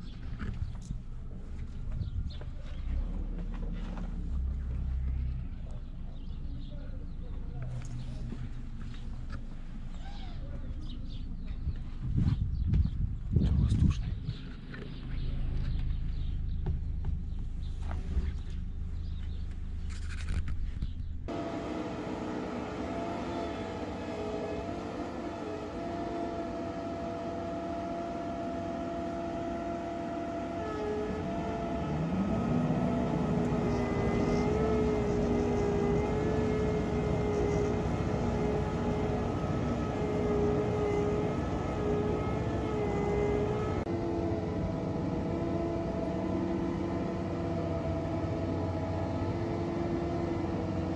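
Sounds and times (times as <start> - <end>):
diesel engine running with whine: 0.0 - 50.9.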